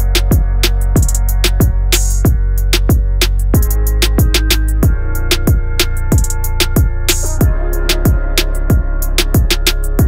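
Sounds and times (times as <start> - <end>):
deep kick drums: 0.0 - 9.6
sharp high percussion hits: 0.0 - 10.0
sustained bass: 0.0 - 10.0.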